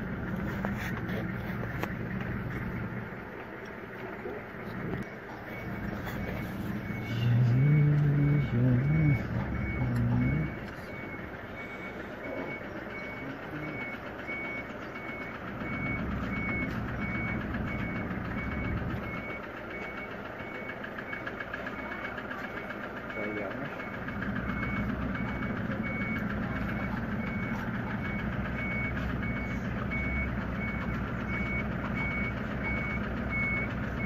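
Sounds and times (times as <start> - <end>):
heavy vehicle engine running: 0.0 - 34.0
reversing alarm beeps: 5.5 - 34.0.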